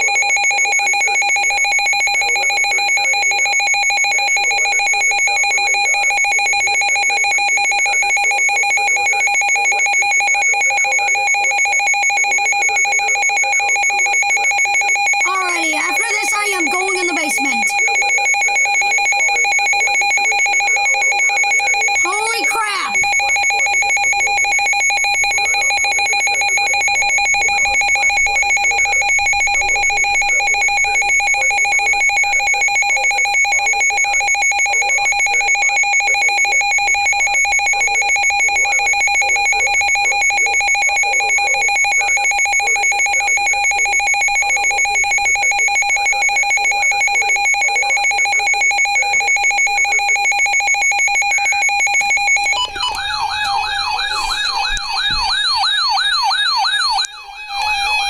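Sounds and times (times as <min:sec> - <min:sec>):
rapidly pulsing alarm tone: 0:00.0 - 0:58.0
warbling alarm tone: 0:00.0 - 0:58.0.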